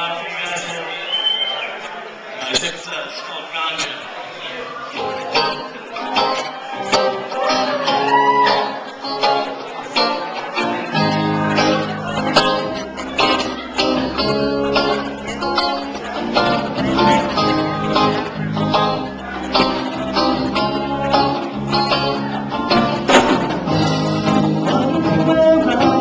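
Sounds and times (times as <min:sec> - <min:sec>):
guitar strumming chords: 0:05.0 - 0:26.0.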